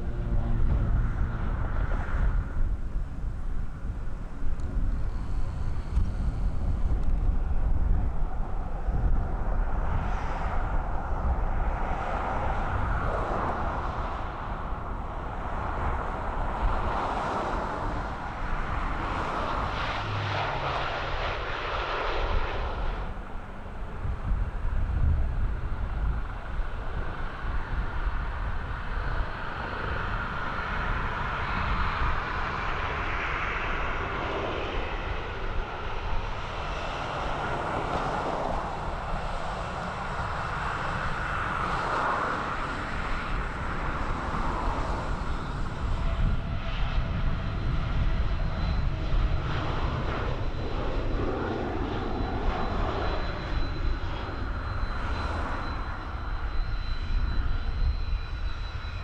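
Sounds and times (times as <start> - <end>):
jet engines whining: 0.0 - 13.3, 16.1 - 59.0
airliner engines: 0.0 - 59.0.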